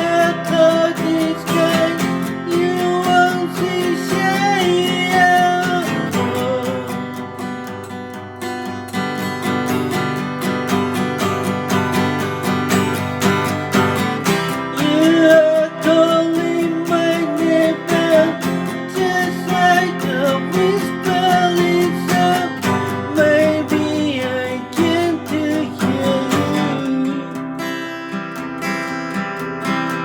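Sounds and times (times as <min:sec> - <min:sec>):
guitar strumming: 0:00.0 - 0:30.0.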